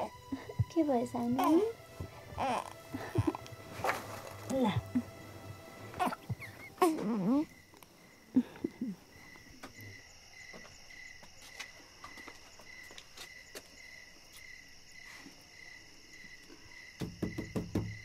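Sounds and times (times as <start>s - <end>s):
crickets chirping: 0.0s - 18.0s
high insect buzz: 0.0s - 18.0s.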